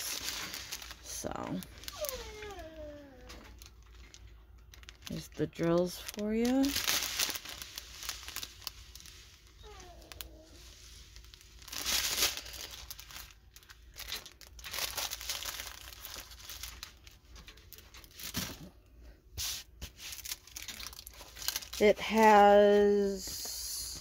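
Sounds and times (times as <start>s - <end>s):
plastic packaging crinkling: 0.0s - 18.8s, 19.4s - 23.2s.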